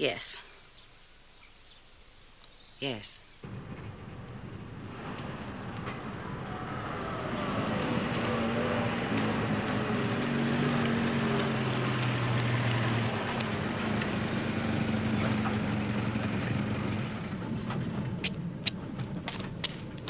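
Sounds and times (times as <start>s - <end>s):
car engine running: 3.4s - 19.7s.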